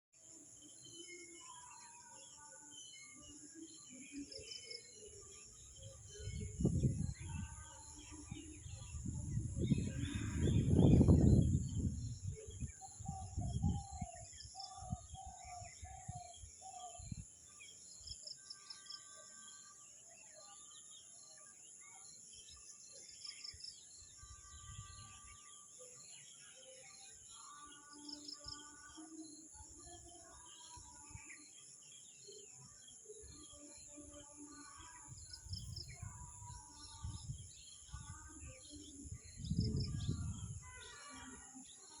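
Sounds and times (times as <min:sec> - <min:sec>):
birds chirping and calling: 0:00.8 - 0:42.0.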